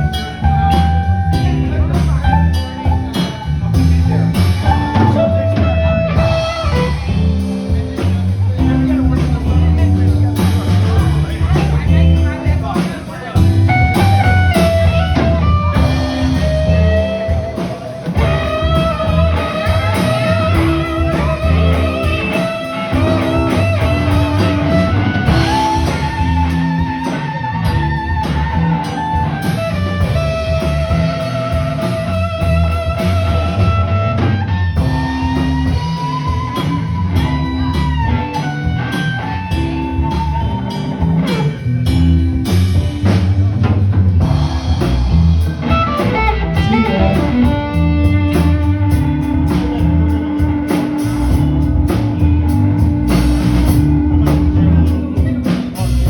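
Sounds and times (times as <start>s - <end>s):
bass guitar: 0.0s - 56.0s
drum kit: 0.0s - 56.0s
lead guitar with vibrato: 0.0s - 56.0s.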